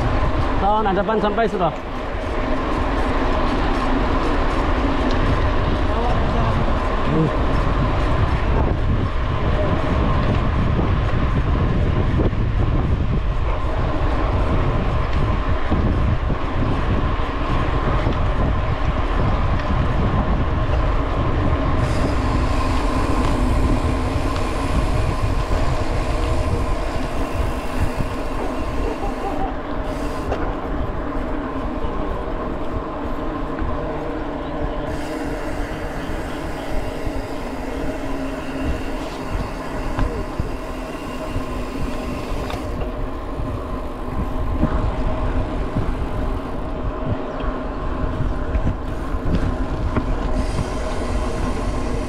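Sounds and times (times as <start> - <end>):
vehicle engine and tyre noise: 0.0 - 52.0.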